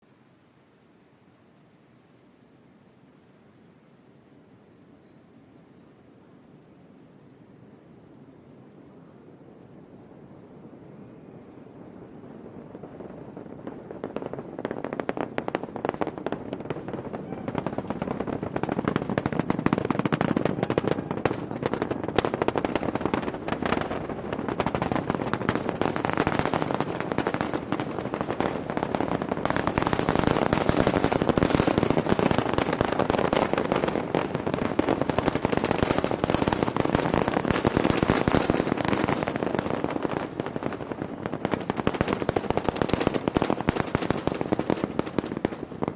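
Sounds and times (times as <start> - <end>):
distant rocket engines rumbling: 7.7 - 45.9.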